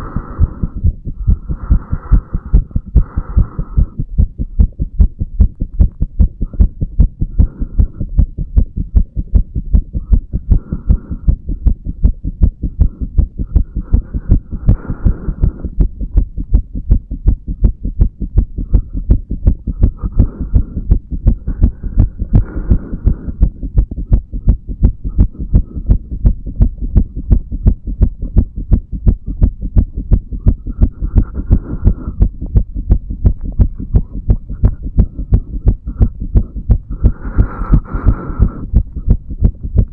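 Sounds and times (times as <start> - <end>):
heartbeat thudding: 0.0 - 39.9.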